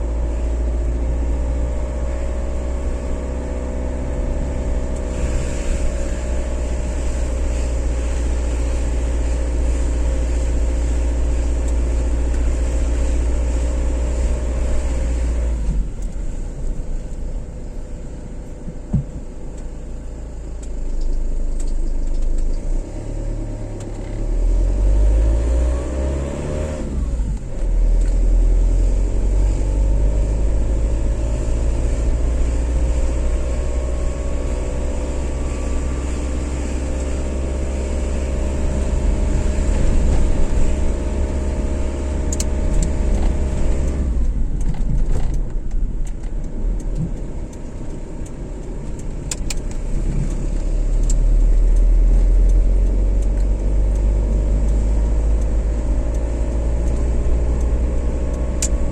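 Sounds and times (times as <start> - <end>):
car engine: 0.0 - 58.9
road rumble: 0.0 - 58.9.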